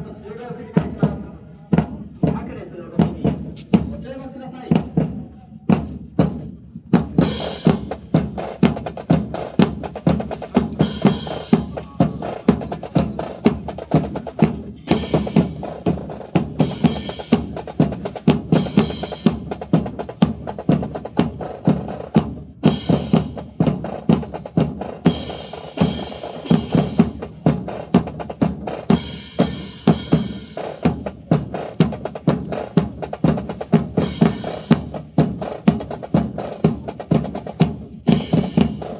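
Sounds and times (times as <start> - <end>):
marching drums cadence: 0.0 - 38.9.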